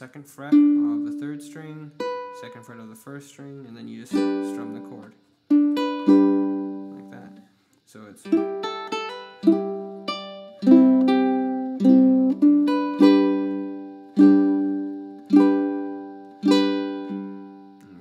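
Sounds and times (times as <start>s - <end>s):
ukulele strummed and plucked: 0.0s - 7.4s, 8.2s - 18.0s.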